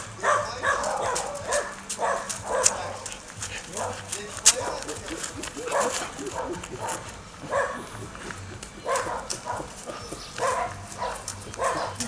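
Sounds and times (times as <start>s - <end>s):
dog barking: 0.0s - 12.0s.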